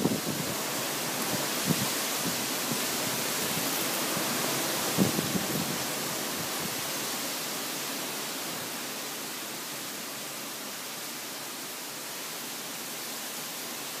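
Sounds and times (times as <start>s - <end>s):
rain and wind hiss: 0.0s - 14.0s.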